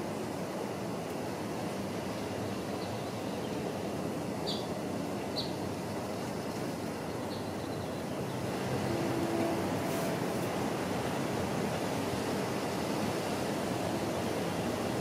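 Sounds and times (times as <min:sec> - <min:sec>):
low outdoor rush: 0:00.0 - 0:15.0.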